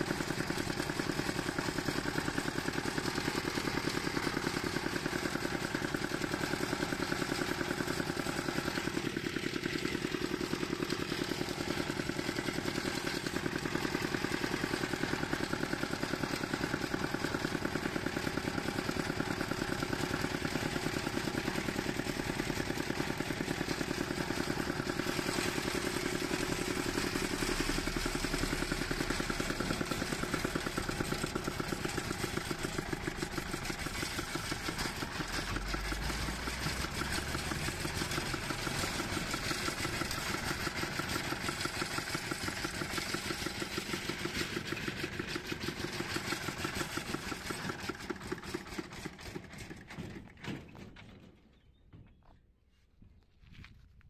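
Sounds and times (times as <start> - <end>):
single-cylinder engine chugging: 0.0 - 51.8.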